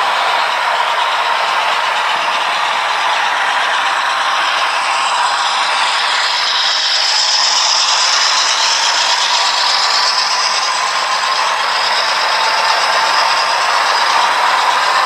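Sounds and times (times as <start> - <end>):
model train motor whine: 0.0 - 15.0
model train wheels rattling on rail: 0.0 - 15.0.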